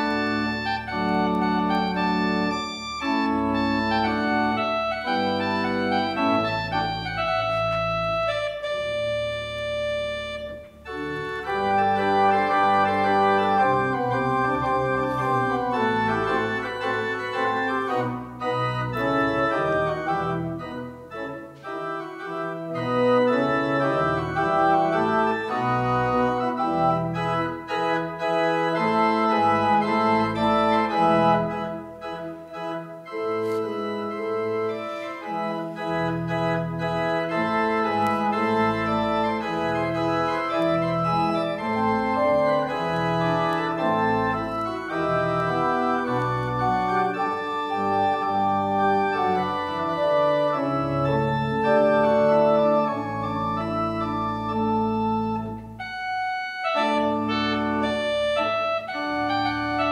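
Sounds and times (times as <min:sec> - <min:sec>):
organ bass line: 0:00.0 - 0:59.9
organ chords: 0:00.0 - 0:59.9.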